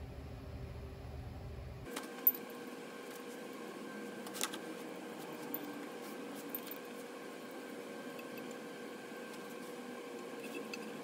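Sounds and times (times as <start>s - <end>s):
faint shop hum: 0.0s - 11.0s.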